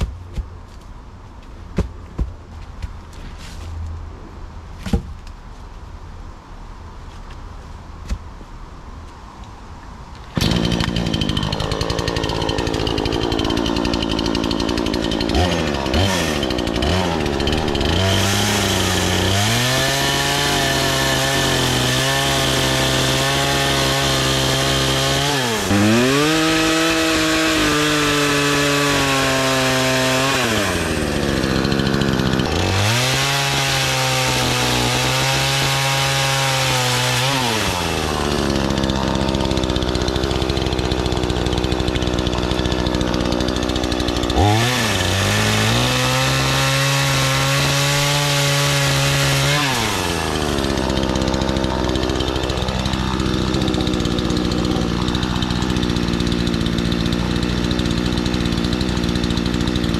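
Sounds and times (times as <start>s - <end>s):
chainsaw idling and revving: 10.3s - 59.9s.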